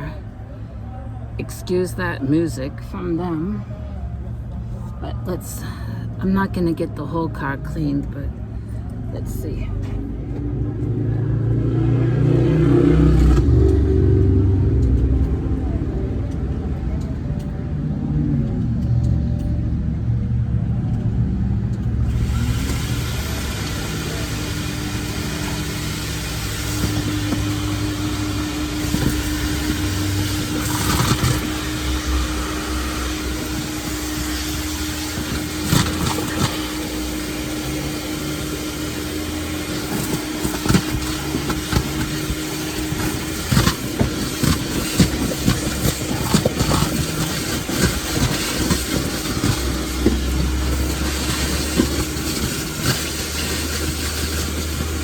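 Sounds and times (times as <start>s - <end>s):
motor drone: 10.2s - 55.0s.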